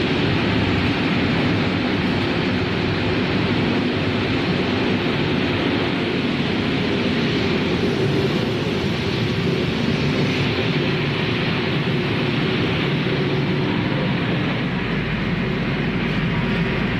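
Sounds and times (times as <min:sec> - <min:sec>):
low hum: 0:00.0 - 0:16.9.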